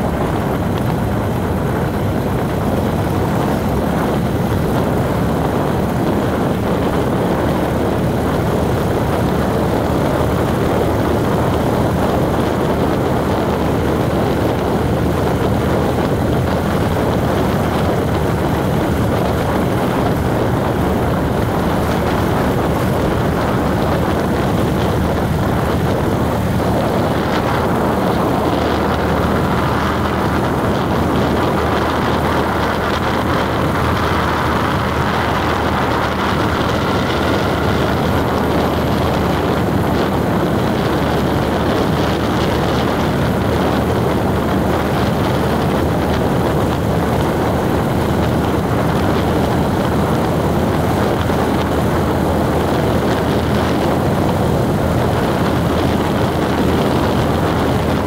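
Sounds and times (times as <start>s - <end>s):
road noise: 0.0s - 58.0s
vehicle engine drone: 0.0s - 58.0s.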